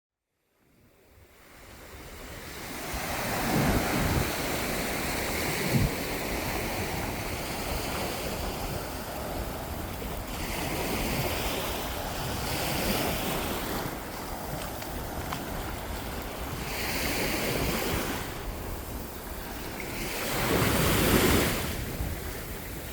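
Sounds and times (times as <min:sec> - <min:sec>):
wind buffeting microphone: 0:01.1 - 0:22.9
surf breaking on beach: 0:02.4 - 0:22.9.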